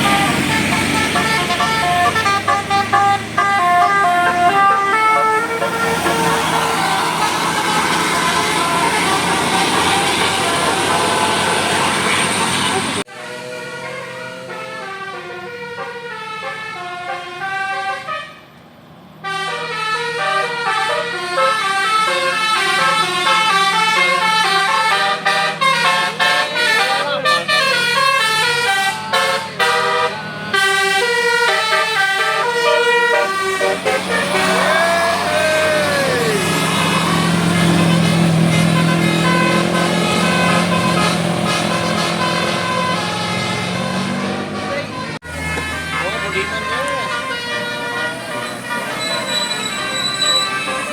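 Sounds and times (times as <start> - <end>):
steady low horn drone: 0.0 - 18.3, 19.2 - 49.2
siren-like horn glides: 0.0 - 18.4, 19.2 - 50.9
musical air horn melody: 0.0 - 18.5, 19.2 - 50.9.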